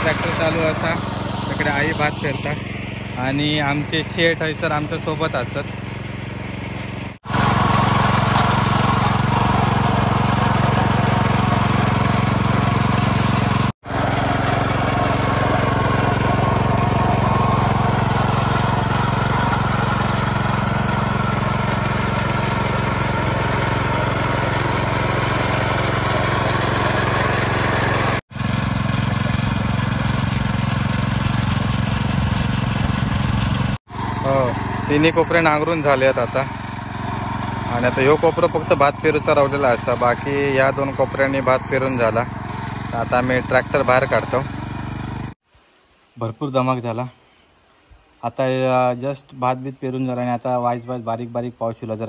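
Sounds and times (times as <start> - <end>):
tiller engine running: 0.0 - 45.4
tines churning soil: 0.0 - 45.4.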